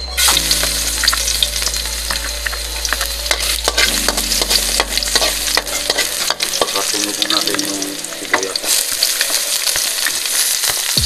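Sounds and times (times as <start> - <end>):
garlic sizzling in oil: 0.2 - 11.0.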